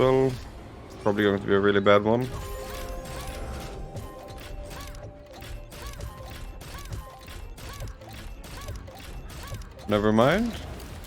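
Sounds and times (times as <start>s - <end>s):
game background music: 0.0s - 11.0s
slot reels clunking: 1.0s - 11.0s.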